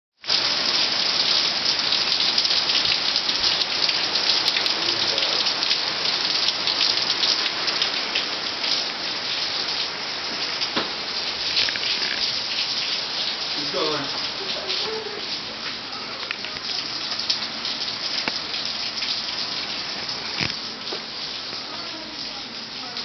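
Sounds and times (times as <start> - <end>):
heavy rain on concrete and cars: 0.2 - 23.0.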